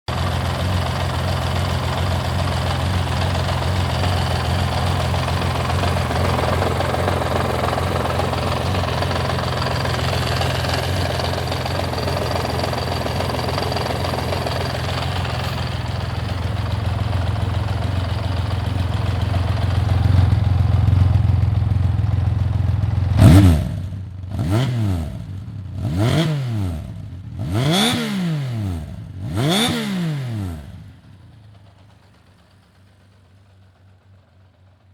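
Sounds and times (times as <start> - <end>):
motorcycle engine idling: 0.1 - 28.0, 28.6 - 34.9
motorcycle engine revving: 0.1 - 32.6.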